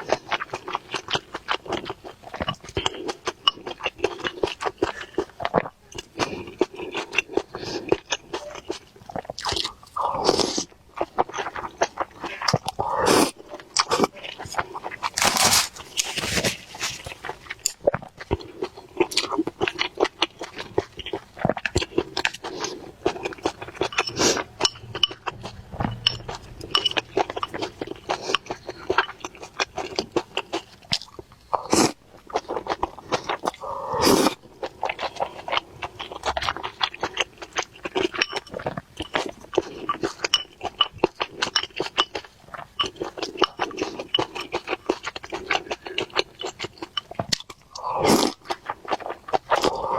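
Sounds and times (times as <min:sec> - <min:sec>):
close chewing and mouth sounds: 0:00.0 - 0:49.9.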